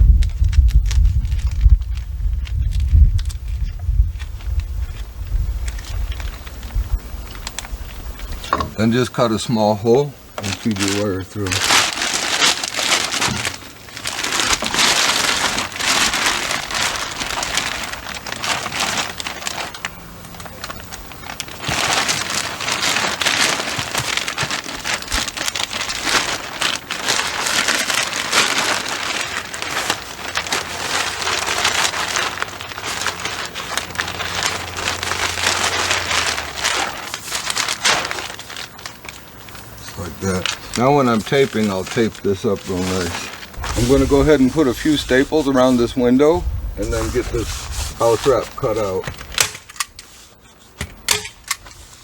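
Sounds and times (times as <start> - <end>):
plastic wrap crinkling and rustling: 0.0 - 52.0.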